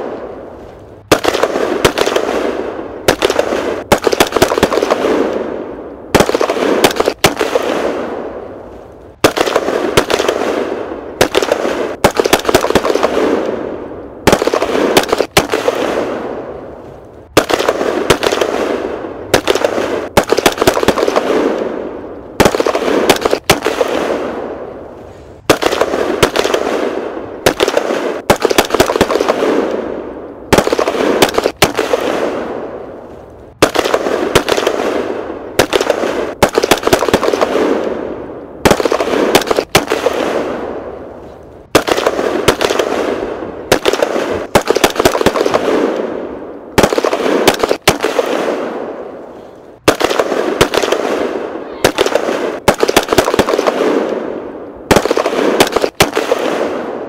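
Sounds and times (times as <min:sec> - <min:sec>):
gunfire: 0:00.0 - 0:08.6, 0:09.2 - 0:16.7, 0:17.3 - 0:24.8, 0:25.4 - 0:41.1, 0:41.7 - 0:57.0.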